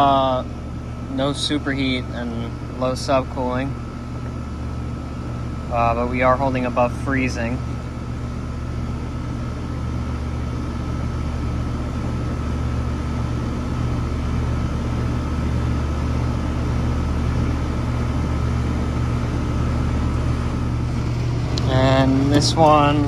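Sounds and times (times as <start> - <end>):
air conditioner hum: 0.0 - 23.0.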